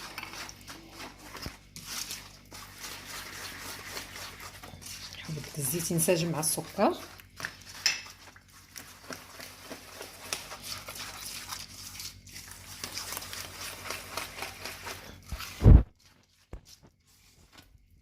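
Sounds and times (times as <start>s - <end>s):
mixing in a bowl: 0.0s - 18.0s.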